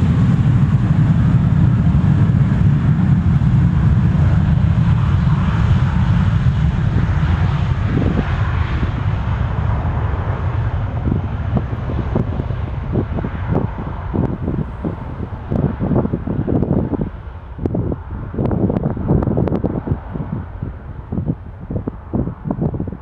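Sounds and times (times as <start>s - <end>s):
jet taking off: 0.0s - 23.0s.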